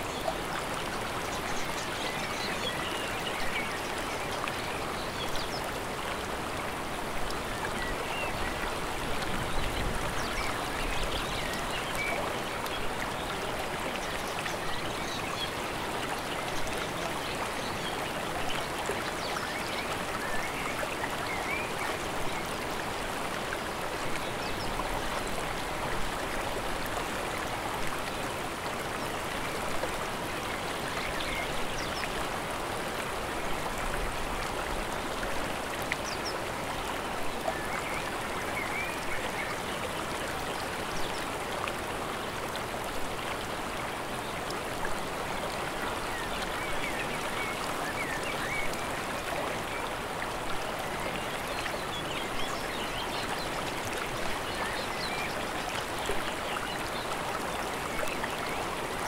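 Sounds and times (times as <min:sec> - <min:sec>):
stream rushing water: 0:00.0 - 0:59.0.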